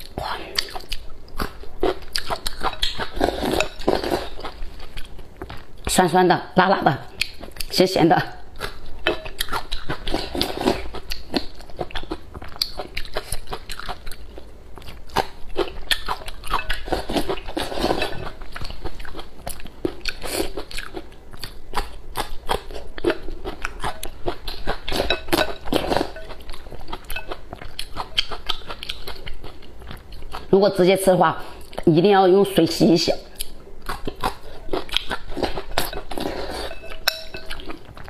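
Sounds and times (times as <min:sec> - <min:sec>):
crunching and chewing peppers: 0:00.0 - 0:06.0, 0:08.5 - 0:30.6, 0:33.3 - 0:38.0.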